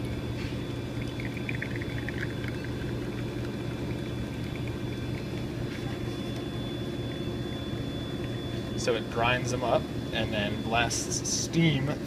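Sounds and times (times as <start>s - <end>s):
espresso machine humming: 0.0s - 12.0s.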